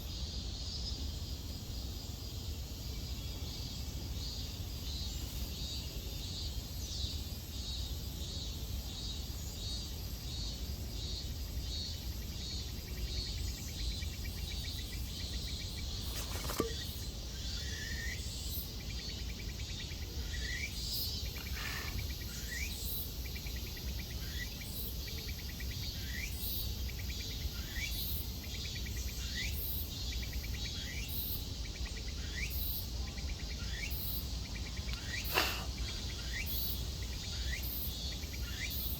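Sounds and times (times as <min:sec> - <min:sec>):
insects calling pulsing: 0:00.1 - 0:38.9.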